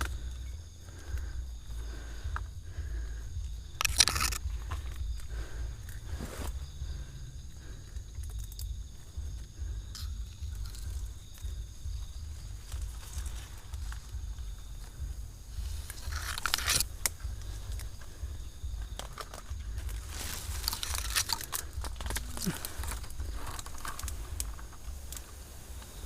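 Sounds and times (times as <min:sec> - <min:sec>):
leaves and twigs rustling snapping: 0:00.0 - 0:26.0
low wind rumble: 0:00.0 - 0:26.0.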